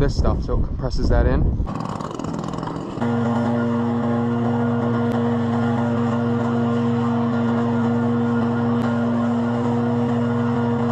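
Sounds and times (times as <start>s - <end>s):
engine droning with whine: 1.4s - 10.9s.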